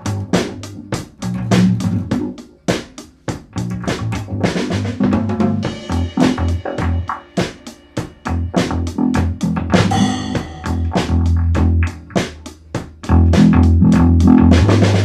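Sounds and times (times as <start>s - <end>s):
electric bass notes: 0.0s - 2.6s, 3.4s - 7.2s, 8.3s - 12.3s, 13.0s - 15.0s
drum kit beat: 0.0s - 15.0s.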